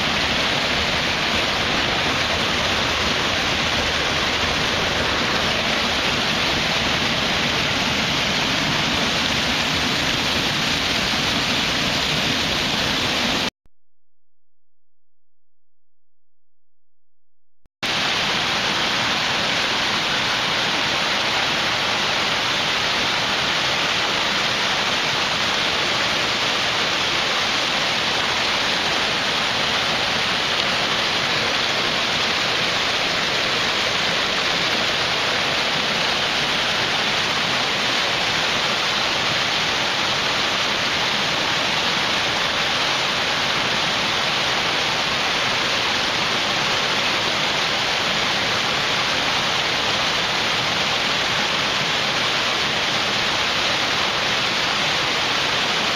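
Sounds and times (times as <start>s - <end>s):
stream rushing over rocks: 0.0s - 13.5s, 17.8s - 55.9s.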